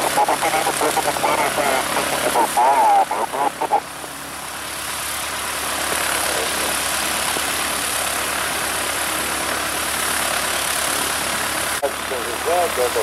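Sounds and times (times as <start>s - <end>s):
small plane engine and propeller: 0.0s - 13.0s.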